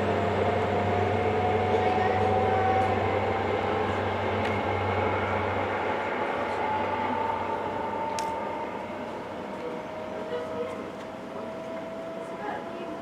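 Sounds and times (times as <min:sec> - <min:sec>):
diesel train engine droning: 0:00.0 - 0:13.0.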